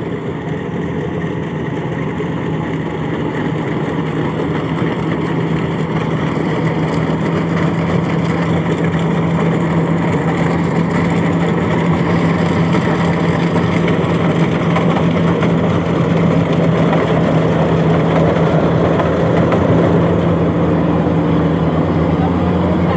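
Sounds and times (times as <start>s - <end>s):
harvester engine droning: 0.0s - 22.9s.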